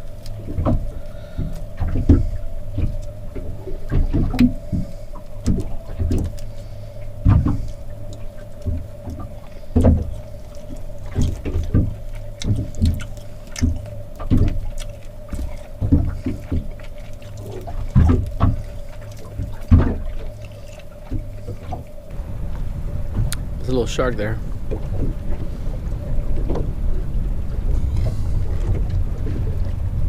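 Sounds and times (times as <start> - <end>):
steady hum: 0.0 - 30.0
waves slapping boat hull: 0.0 - 30.0.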